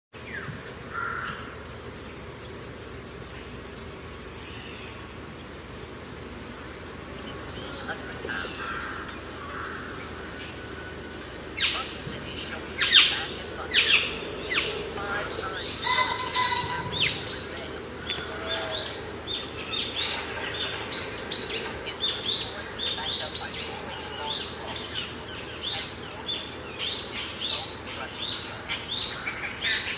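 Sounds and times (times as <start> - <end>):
songbirds chirping: 0.2 - 29.9
steady low buzz: 0.2 - 29.9.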